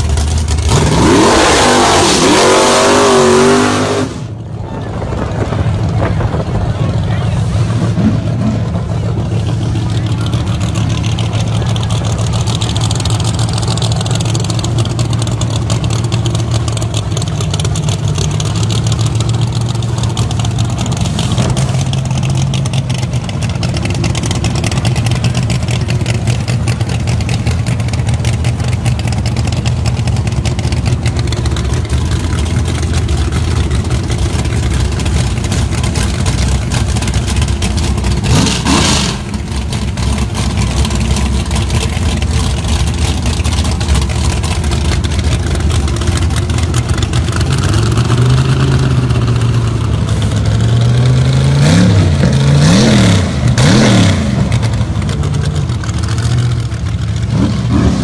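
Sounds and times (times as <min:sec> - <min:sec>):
race car engine idling roughly: 0:00.0 - 0:01.4, 0:04.2 - 0:57.6.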